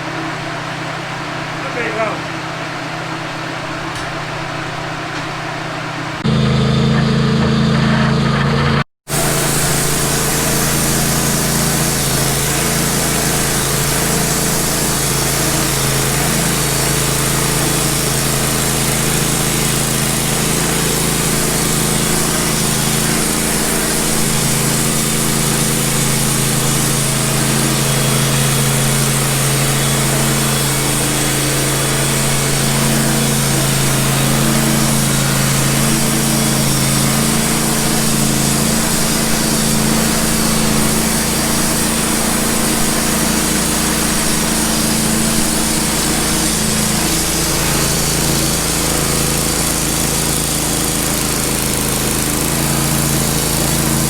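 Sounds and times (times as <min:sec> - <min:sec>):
sawmill engine running: 0:00.0 - 0:54.0
blade sawing through log: 0:09.0 - 0:54.0.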